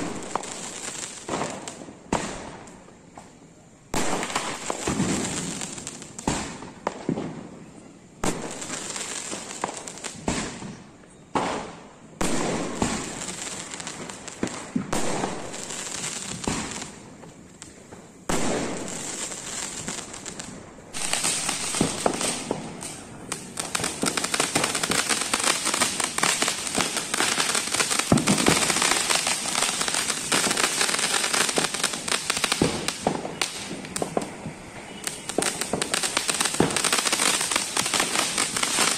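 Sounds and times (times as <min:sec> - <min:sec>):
fireworks bangs and pops: 0:00.0 - 0:38.9
fireworks crackling: 0:00.0 - 0:38.9.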